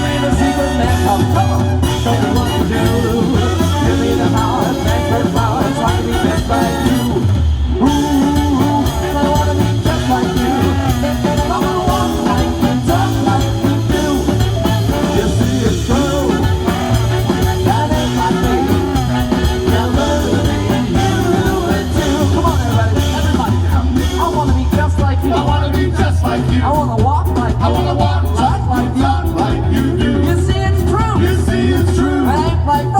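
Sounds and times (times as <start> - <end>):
pulsing bass line: 0.0 - 32.9
swing band playing: 0.0 - 32.9.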